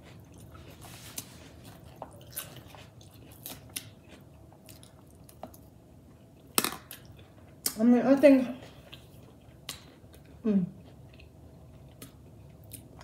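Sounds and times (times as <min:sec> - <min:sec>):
chewing crisp lettuce: 0:00.0 - 0:07.8, 0:08.6 - 0:13.0.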